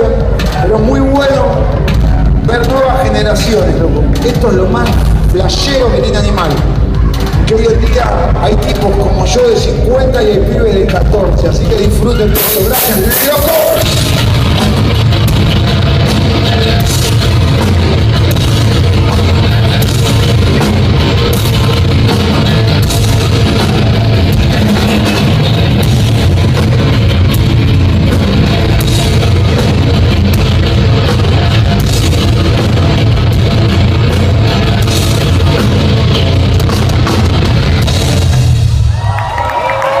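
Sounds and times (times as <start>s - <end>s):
heavy metal band playing live: 0.0s - 40.0s.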